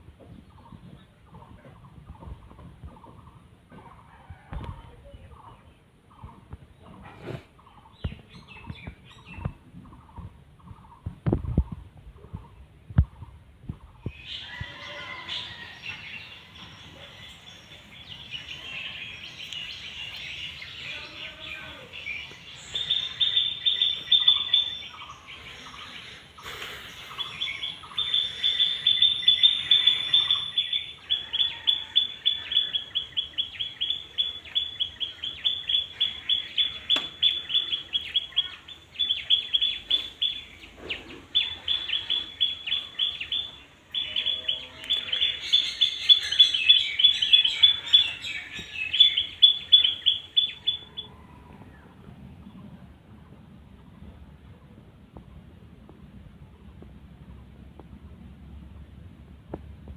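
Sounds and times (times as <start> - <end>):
birds chirping: 0.1 - 54.8.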